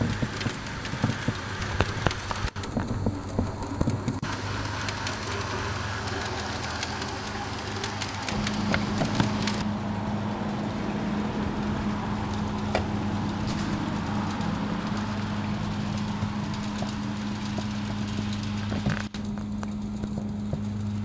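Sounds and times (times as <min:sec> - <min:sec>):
model train humming: 0:00.0 - 0:21.0
wheels clicking on rails: 0:00.0 - 0:21.0.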